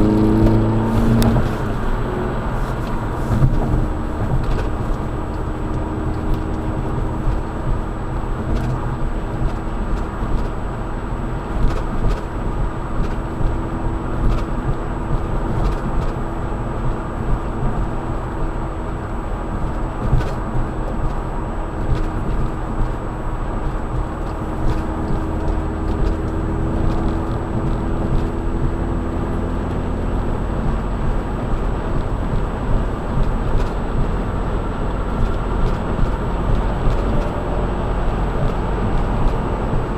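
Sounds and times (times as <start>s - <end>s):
car road and engine noise: 0.0s - 39.9s
steady hum: 0.0s - 39.9s.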